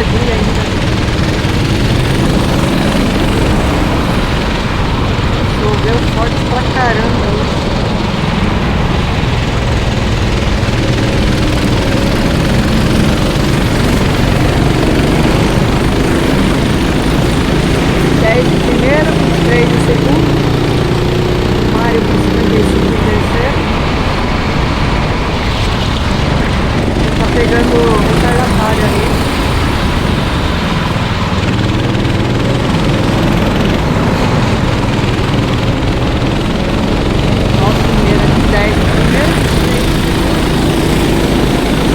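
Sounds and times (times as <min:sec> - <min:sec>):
kart engines running: 0:00.0 - 0:41.9.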